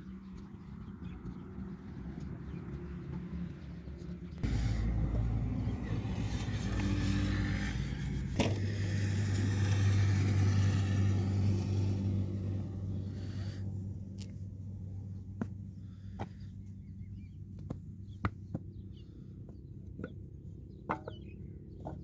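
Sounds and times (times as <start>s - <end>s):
engine running: 0.3s - 18.9s.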